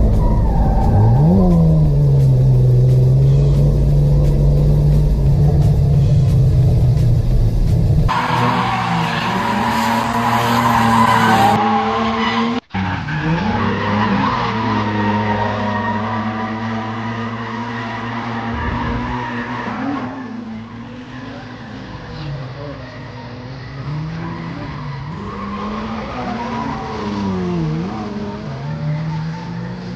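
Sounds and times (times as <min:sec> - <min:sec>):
car engines revving high: 0:00.0 - 0:29.9
tyres skidding and squealing: 0:00.0 - 0:29.9.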